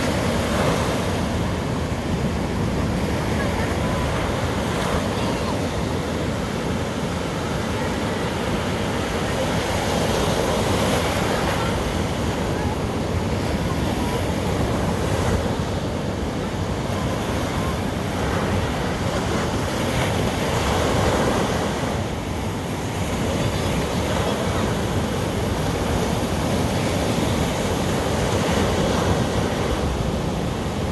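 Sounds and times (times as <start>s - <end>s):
surf washing on beach: 0.0s - 30.9s.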